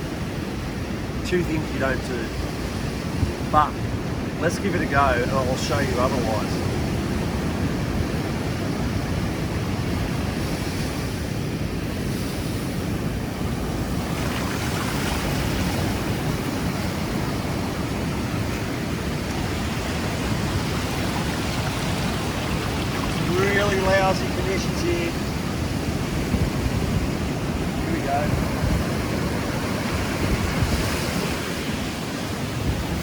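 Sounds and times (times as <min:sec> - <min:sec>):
surf breaking on beach: 0:00.0 - 0:33.0
wind buffeting microphone: 0:00.0 - 0:33.0.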